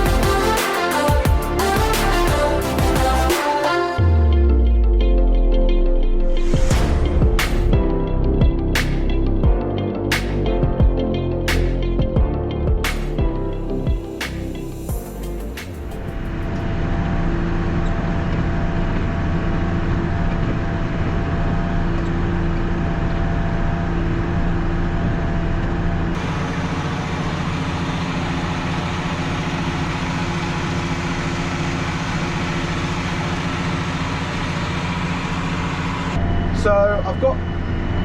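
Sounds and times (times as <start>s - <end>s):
tractor engine drone: 0.0s - 38.0s.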